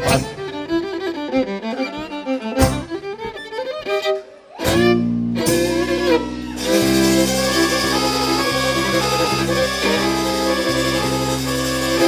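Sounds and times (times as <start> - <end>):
accordion: 0.0 - 12.0
folk band with fiddle: 0.0 - 12.0.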